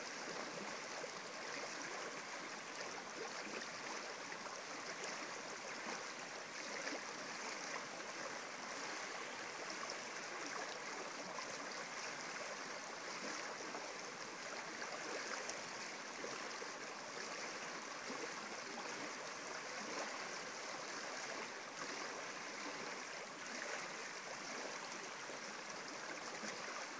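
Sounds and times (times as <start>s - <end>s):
stream rippling over pebbles: 0.0s - 26.9s.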